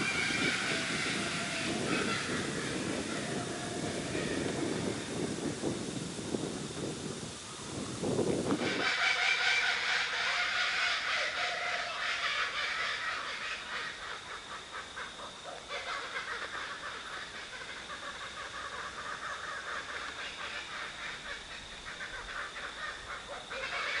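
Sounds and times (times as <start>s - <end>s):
birds calling: 0.0s - 5.8s, 7.5s - 24.0s.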